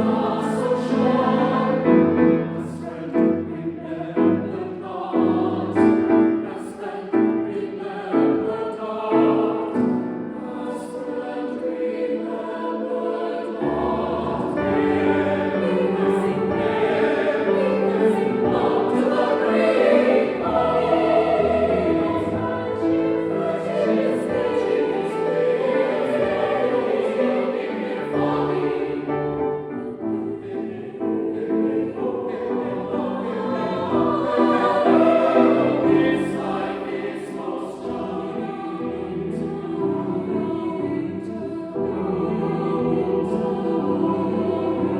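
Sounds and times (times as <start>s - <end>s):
choir singing: 0.0s - 44.9s
piano accompaniment: 0.0s - 44.9s.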